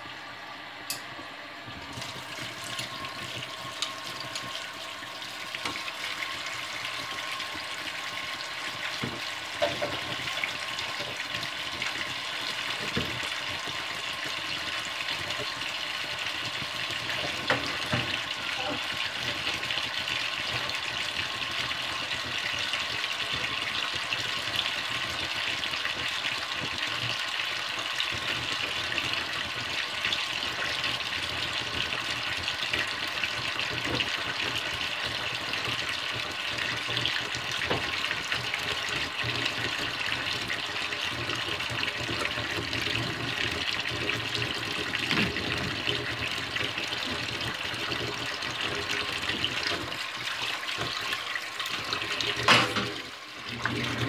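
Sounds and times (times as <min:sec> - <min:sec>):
faucet running into metal sink: 0:00.9 - 0:01.1, 0:01.7 - 0:54.0.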